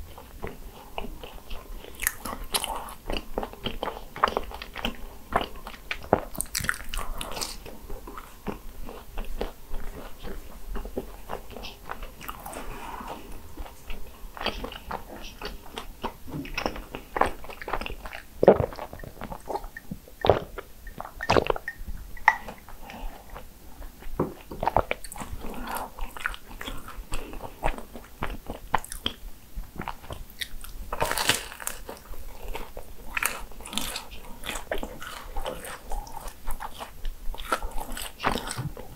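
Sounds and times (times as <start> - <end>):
crunchy eating and chewing: 0.0 - 38.9.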